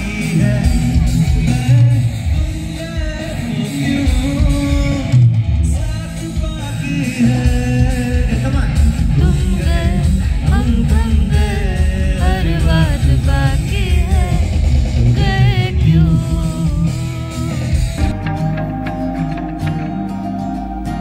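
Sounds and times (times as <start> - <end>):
pop song with singer and guitar: 0.0 - 21.0.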